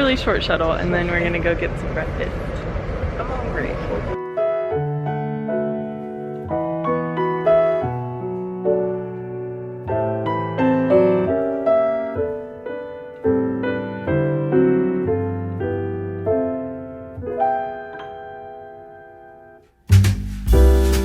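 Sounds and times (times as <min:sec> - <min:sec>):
gentle piano music: 0:04.1 - 0:21.0.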